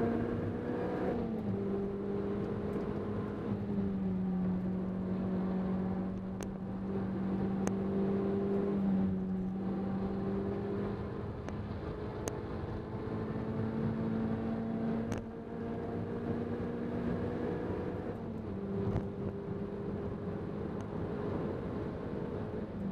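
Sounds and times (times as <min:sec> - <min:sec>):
car engine running at speed: 0:00.0 - 0:22.9.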